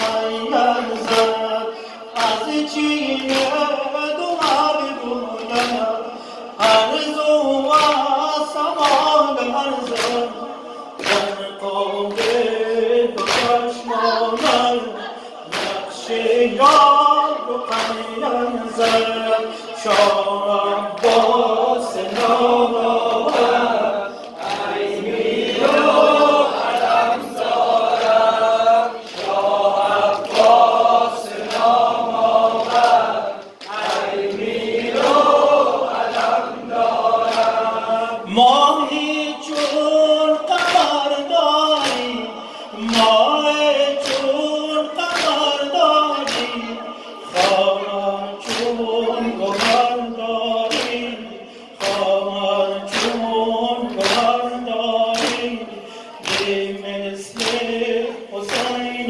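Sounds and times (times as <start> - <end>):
amplified person reciting: 0.0 - 59.0
men singing a lament: 0.0 - 59.0.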